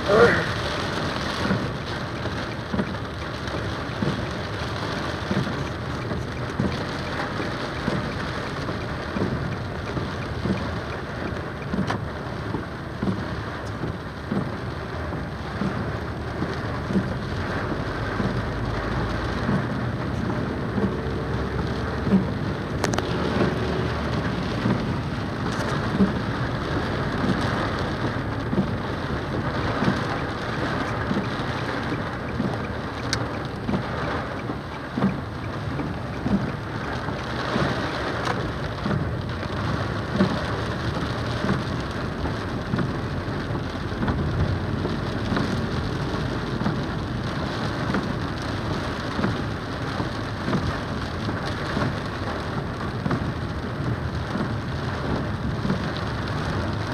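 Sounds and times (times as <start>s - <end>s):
heavy rain: 0.0s - 56.9s
raindrops splashing: 0.0s - 56.9s.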